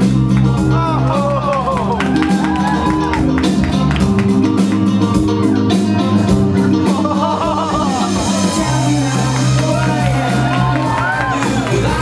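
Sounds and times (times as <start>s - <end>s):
music with guitar and beat: 0.0s - 12.0s.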